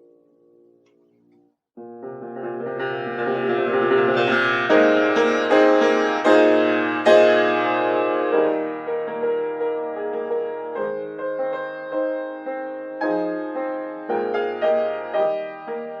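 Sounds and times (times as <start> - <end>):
solo piano chords: 0.0 - 16.0.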